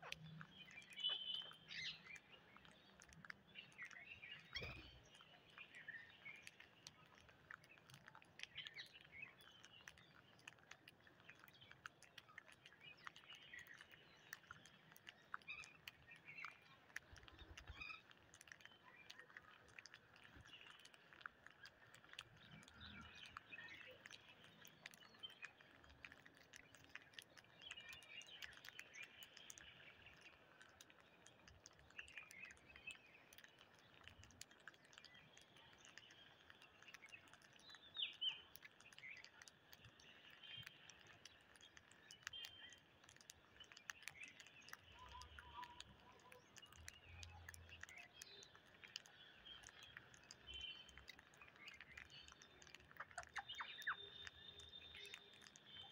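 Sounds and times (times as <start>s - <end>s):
beaks clicking on concrete: 0.0s - 55.9s.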